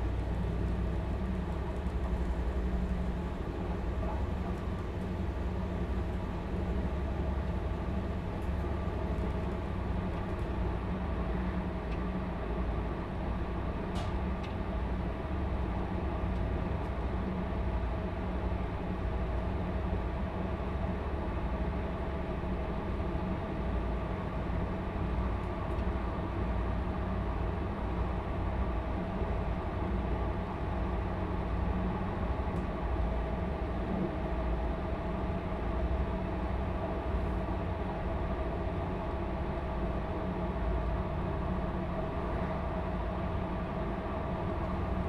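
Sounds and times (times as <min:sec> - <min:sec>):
diesel engine drone: 0:00.0 - 0:45.0
wheels rumbling on track: 0:00.0 - 0:45.0.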